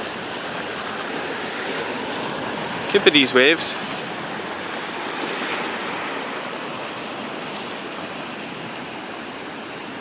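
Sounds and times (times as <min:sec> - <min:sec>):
sea waves on rocky shore: 0:00.0 - 0:10.0.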